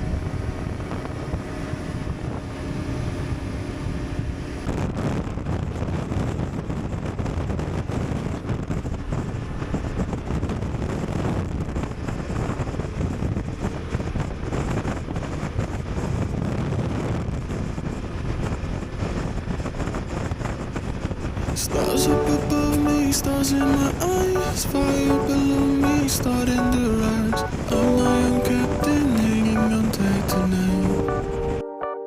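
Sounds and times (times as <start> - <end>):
wind rushing across microphone: 0.0 - 31.6.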